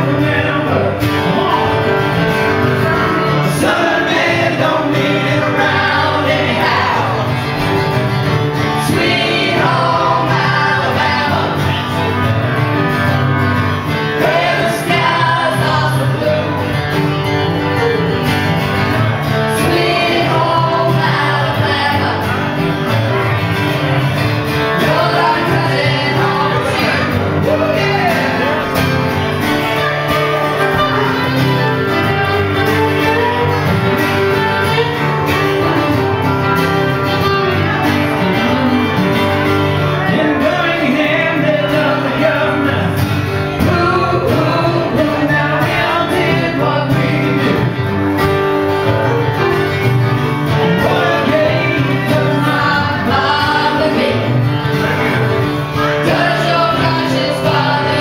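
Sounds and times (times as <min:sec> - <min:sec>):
voices singing in harmony: 0:00.0 - 0:17.3, 0:18.2 - 0:35.6, 0:39.6 - 0:48.0, 0:50.4 - 0:58.0
acoustic band playing: 0:00.0 - 0:58.0.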